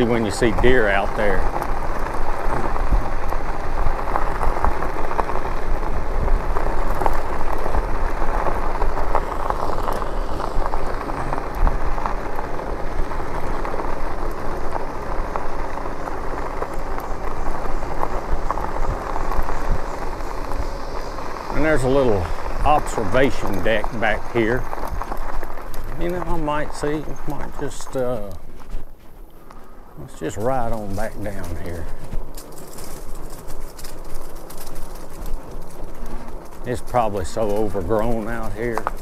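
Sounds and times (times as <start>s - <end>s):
tyres rolling over gravel: 0.0s - 39.0s
wind rumbling on microphone: 0.0s - 39.0s.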